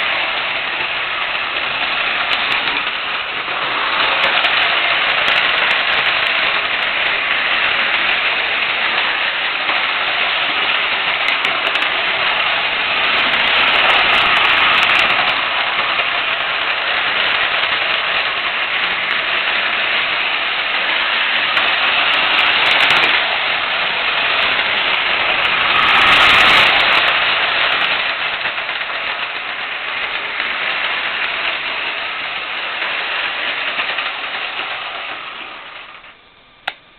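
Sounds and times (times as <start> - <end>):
toy train running on track: 0.0 - 36.9.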